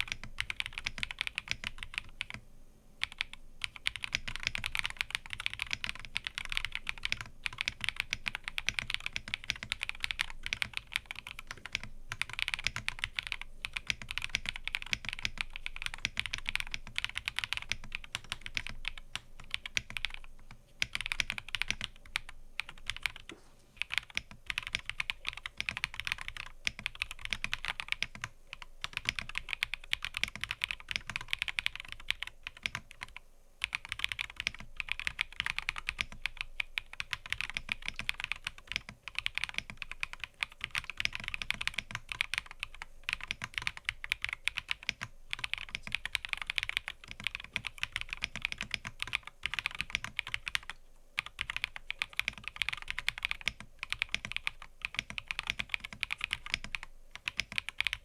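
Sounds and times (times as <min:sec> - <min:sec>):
mechanical keyboard typing: 0:00.0 - 0:02.4, 0:03.0 - 0:58.0.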